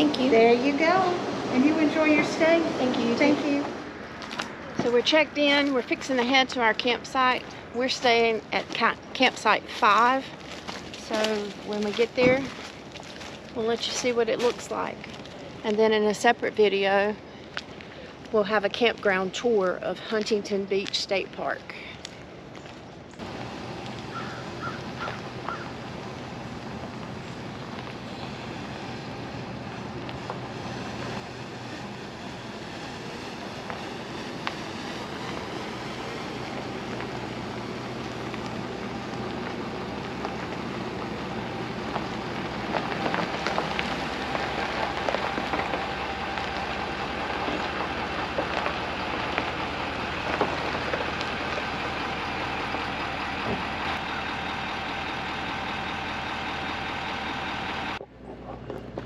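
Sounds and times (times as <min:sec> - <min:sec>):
truck engine hum: 0:00.0 - 0:59.0
tyre and road noise: 0:00.0 - 0:59.0.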